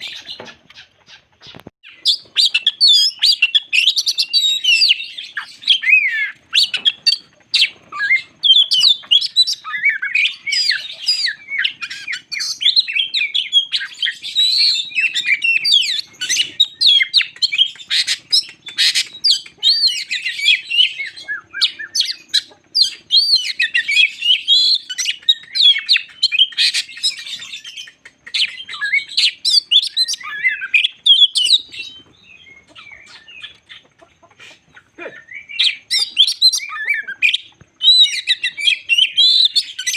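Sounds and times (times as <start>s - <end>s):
magpie-robin singing: 0.0s - 34.6s, 35.2s - 39.9s.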